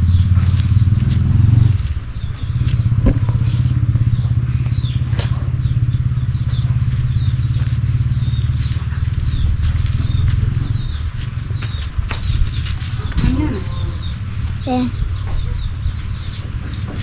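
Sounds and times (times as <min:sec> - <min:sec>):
faint birds chirping: 0:00.0 - 0:17.0
motorcycle engine running: 0:00.0 - 0:17.0.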